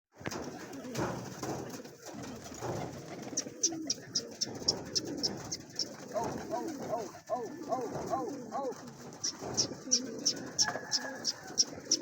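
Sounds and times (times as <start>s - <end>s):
pigeons cooing: 0.3s - 12.0s.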